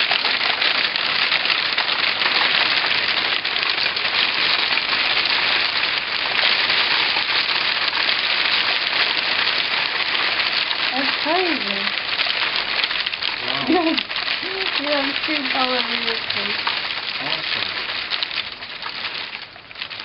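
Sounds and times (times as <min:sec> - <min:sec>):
hail striking tiled floor: 0:00.0 - 0:20.0.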